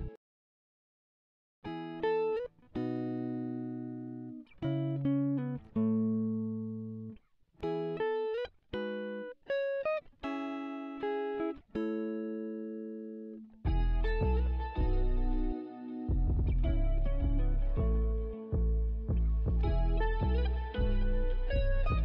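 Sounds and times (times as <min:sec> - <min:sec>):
clean guitar playing chords: 0:01.7 - 0:22.0.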